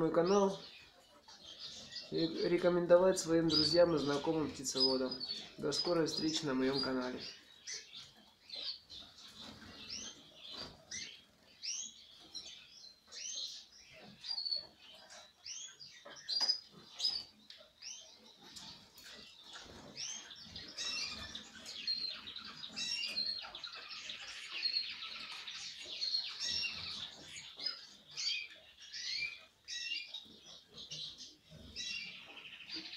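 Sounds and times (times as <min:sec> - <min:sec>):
canaries chirping: 0:00.0 - 0:32.9.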